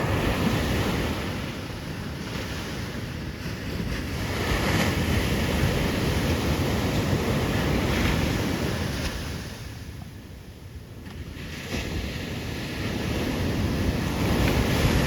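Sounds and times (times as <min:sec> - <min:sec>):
wind buffeting microphone: 0:00.0 - 0:10.0, 0:10.8 - 0:15.0
ocean surf: 0:00.0 - 0:15.0.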